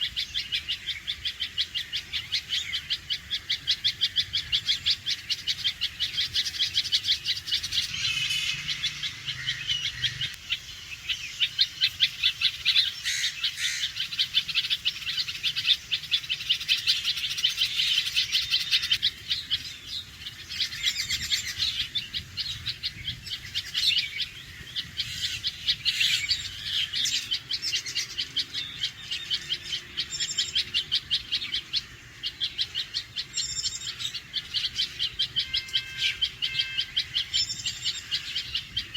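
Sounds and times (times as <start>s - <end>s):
bird alarm calling: 0.0s - 38.9s.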